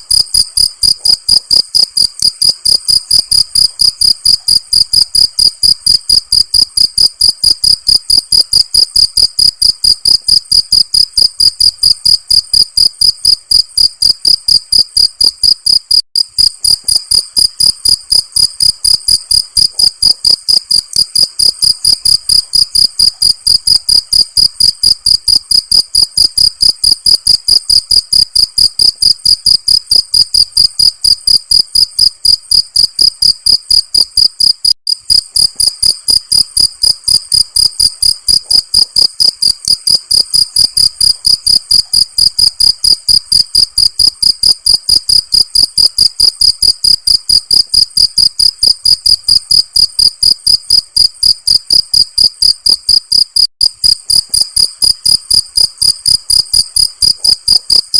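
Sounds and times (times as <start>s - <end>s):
cricket chirping: 0.0s - 57.9s.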